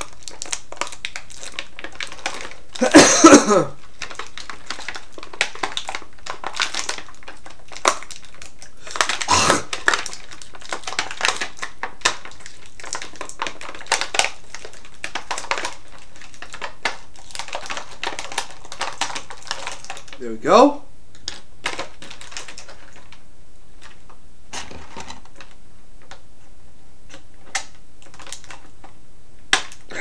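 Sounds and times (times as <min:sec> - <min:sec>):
plastic packaging crinkling: 0:00.0 - 0:20.3, 0:21.1 - 0:23.2, 0:23.8 - 0:26.2, 0:27.1 - 0:29.9.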